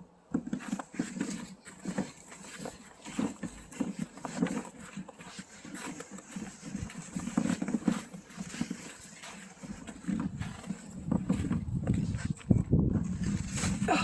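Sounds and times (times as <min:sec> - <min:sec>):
plastic bin rattling over ice: 0:00.4 - 0:12.0.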